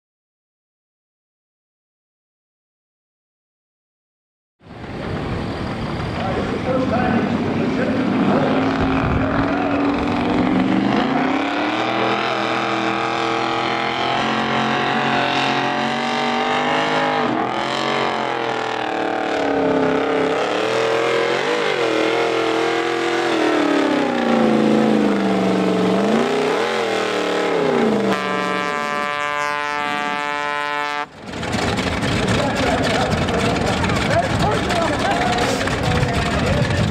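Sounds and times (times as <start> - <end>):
truck engine revving under load: 4.7 - 36.9.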